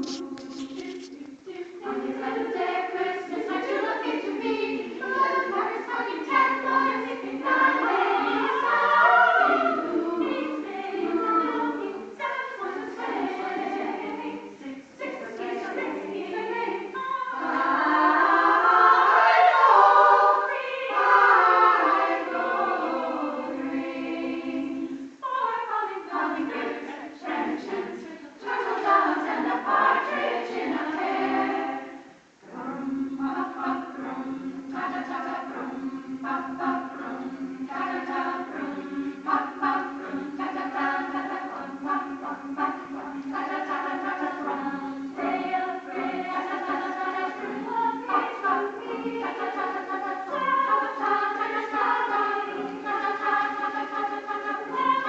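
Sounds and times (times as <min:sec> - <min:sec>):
choir of women singing: 0:00.0 - 0:55.0.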